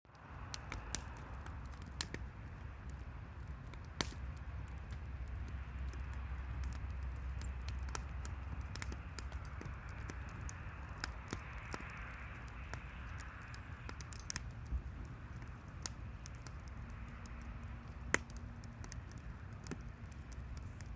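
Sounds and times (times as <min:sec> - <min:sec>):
wood fire crackling: 0:00.1 - 0:20.9.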